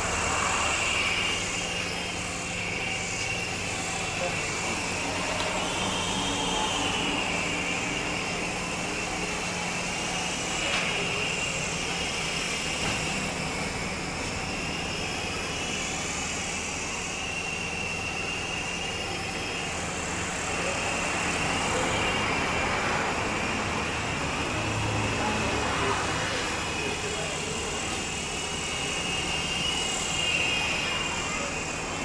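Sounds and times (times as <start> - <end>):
small motors high-pitched whine: 0.0 - 32.0.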